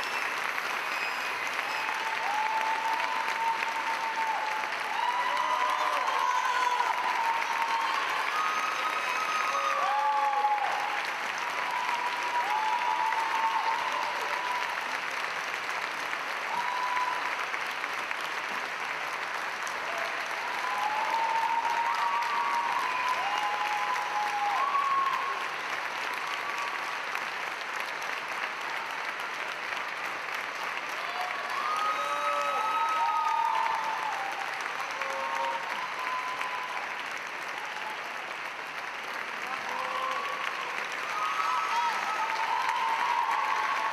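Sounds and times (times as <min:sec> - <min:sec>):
audience applauding: 0:00.0 - 0:43.9
calls from crowd: 0:00.0 - 0:43.9.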